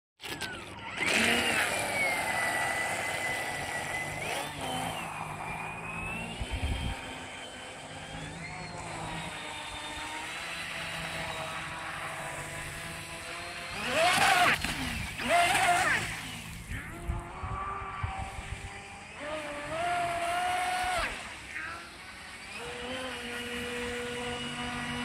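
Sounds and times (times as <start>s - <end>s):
speedboat motor whining: 0.2s - 25.0s.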